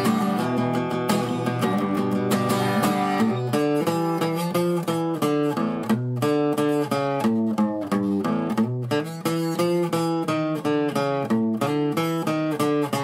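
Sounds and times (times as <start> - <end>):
plucked acoustic guitar: 0.0 - 13.0.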